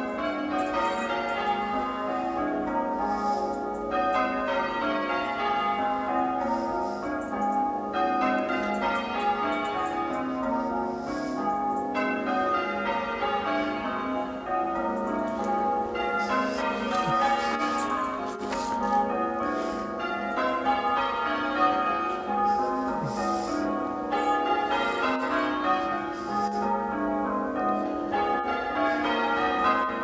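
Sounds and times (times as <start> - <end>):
church bells change ringing: 0.0 - 30.0.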